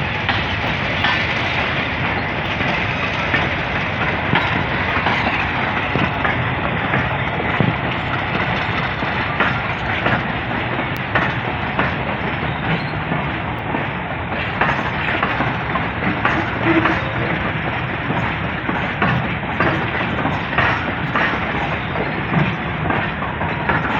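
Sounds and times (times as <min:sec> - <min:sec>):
train wagons rolling: 0:00.0 - 0:23.9
wheels clacking over rail joints: 0:00.0 - 0:23.9.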